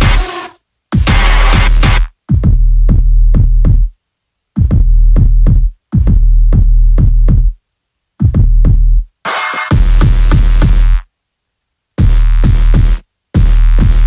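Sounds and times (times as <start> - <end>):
electronic music with drum-machine beat: 0.0 - 4.0, 4.6 - 7.6, 8.2 - 11.1, 12.0 - 14.0.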